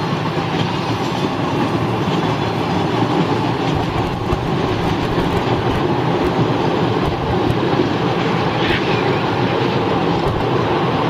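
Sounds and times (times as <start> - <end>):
electric trains passing: 0.0 - 11.0
wheels running on rails: 0.0 - 11.0.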